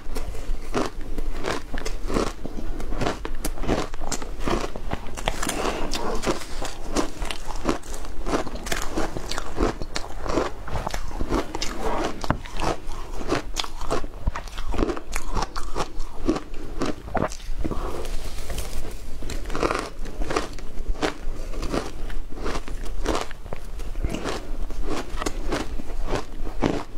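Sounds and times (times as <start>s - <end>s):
chewing crunchy shaved ice: 0.0s - 26.9s.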